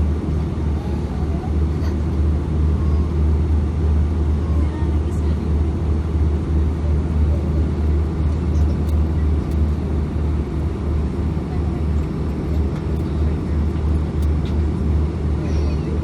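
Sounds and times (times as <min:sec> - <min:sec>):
airliner engines idling drone: 0:00.0 - 0:16.0.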